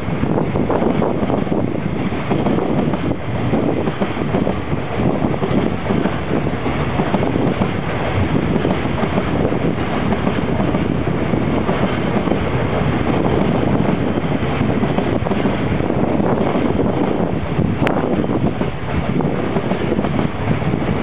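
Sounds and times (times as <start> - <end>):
train passing: 0.0 - 21.0
wind buffeting microphone: 0.0 - 21.0.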